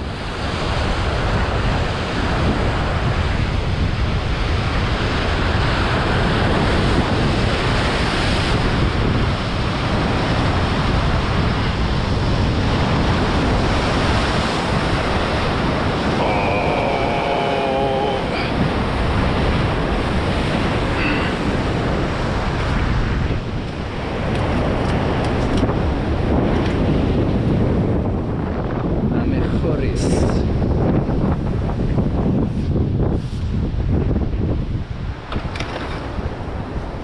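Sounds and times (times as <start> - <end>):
sea surf washing on shore: 0.0 - 37.0
wind buffeting microphone: 0.0 - 37.0.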